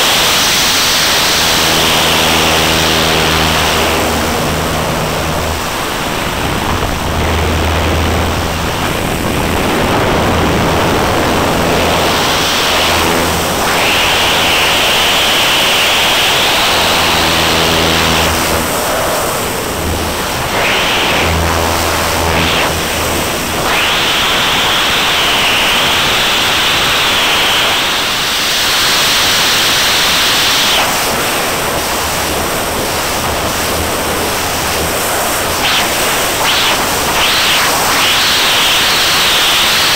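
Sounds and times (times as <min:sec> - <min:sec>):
airplane engine droning: 0:00.0 - 0:39.9
wind rushing over microphone: 0:00.0 - 0:39.9.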